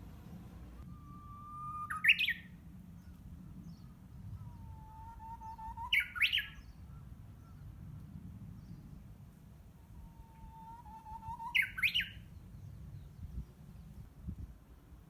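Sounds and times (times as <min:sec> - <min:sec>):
bush warbler singing: 0:00.0 - 0:09.2, 0:09.9 - 0:14.4.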